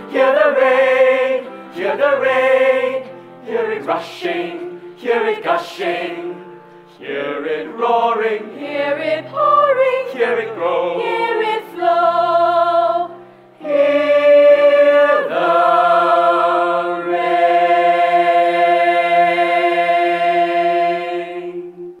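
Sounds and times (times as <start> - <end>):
chorus singing: 0.0 - 22.0.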